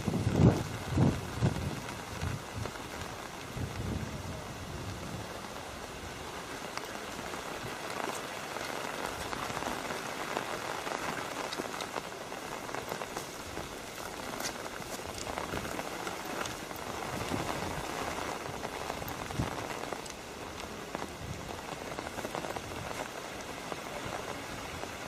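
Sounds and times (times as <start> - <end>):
raindrops ticking close by: 0.0 - 25.0
steady rain hiss: 0.0 - 25.0.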